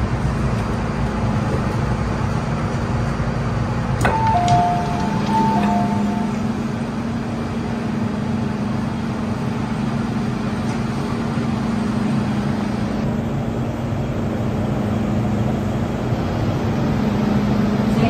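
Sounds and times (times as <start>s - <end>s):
metro car equipment humming: 0.0s - 18.0s.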